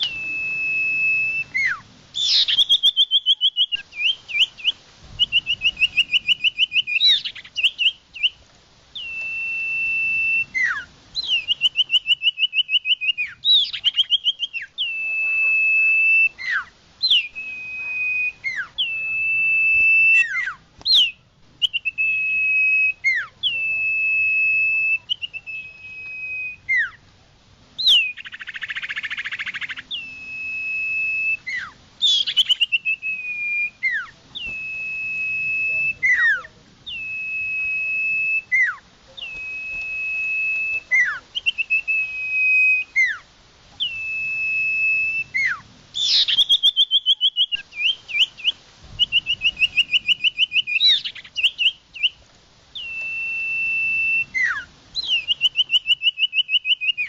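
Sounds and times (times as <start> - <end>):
bird whistling song: 0.0 - 27.1, 27.8 - 57.0.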